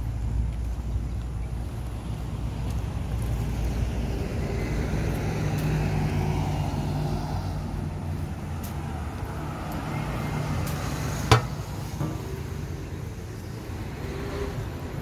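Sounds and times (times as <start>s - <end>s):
bus engine hum: 0.0s - 15.0s
road traffic: 0.0s - 15.0s.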